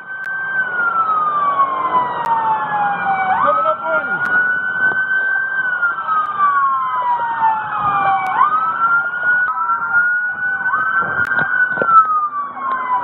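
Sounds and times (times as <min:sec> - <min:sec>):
police sirens wailing: 0:00.0 - 0:13.0.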